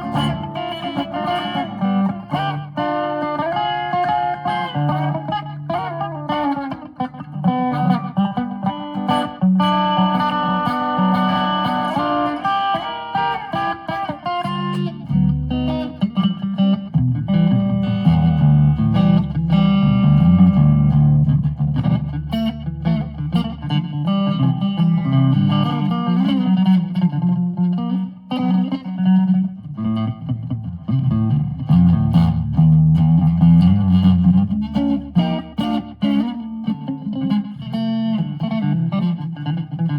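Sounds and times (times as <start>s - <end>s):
twangy country electric guitar: 0.0s - 39.9s.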